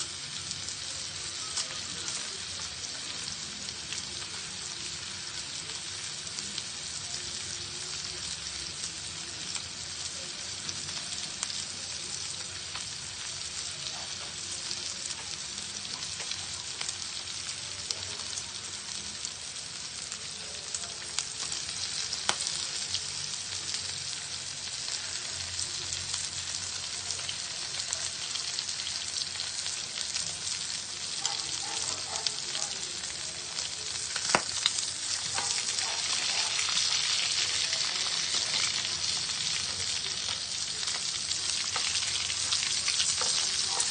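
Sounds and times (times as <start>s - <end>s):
pork chops sizzling on grill: 0.0s - 43.9s.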